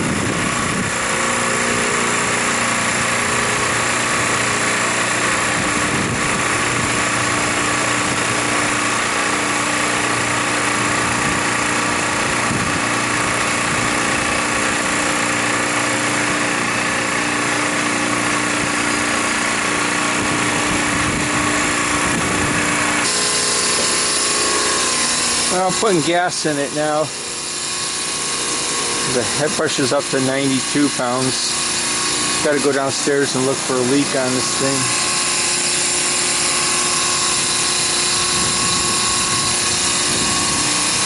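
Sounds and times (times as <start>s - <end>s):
condensing unit running: 0.0s - 41.0s
steady hum: 0.0s - 41.0s.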